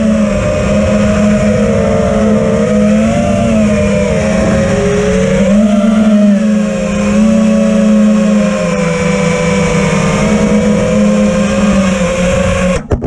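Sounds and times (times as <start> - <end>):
drone motors buzzing: 0.0 - 13.0.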